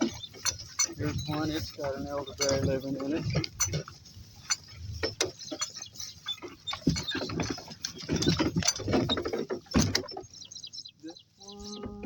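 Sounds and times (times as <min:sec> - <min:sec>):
cart clicks and rattles: 0:00.0 - 0:11.0.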